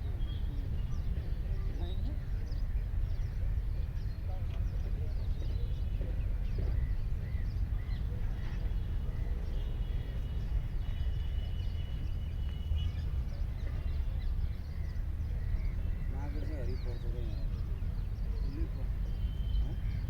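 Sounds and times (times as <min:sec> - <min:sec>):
small birds chirping and twittering: 0:00.0 - 0:20.0.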